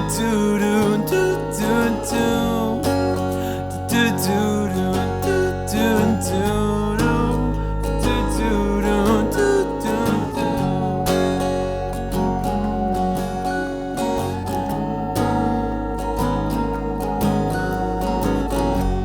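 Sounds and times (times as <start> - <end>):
acoustic guitar strumming: 0.0 - 19.0
bending melody line: 0.0 - 19.0.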